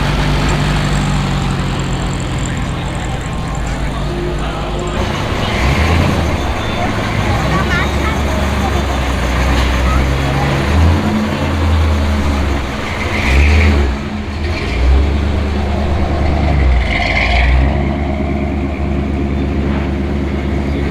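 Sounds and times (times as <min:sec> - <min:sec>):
car engine idling unevenly: 0:00.0 - 0:20.9.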